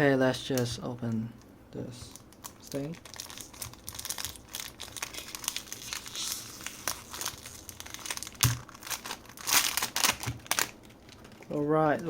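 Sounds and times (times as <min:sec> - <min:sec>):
small crackles: 0:02.0 - 0:12.0
packaging crinkling and rustling: 0:02.1 - 0:12.0.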